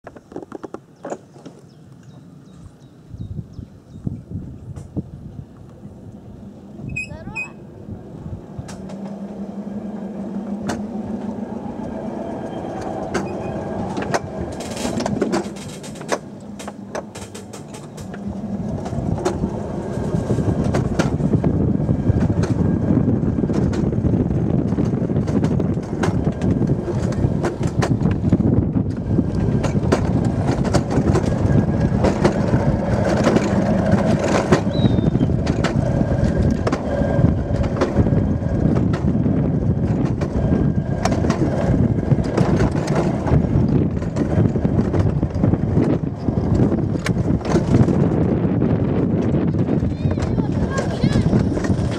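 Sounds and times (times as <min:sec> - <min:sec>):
sled wheels rumbling on rail: 0:00.0 - 0:51.9.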